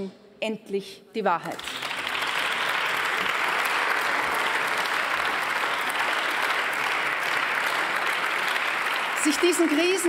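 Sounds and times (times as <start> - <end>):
crowd applauding: 1.5 - 10.0.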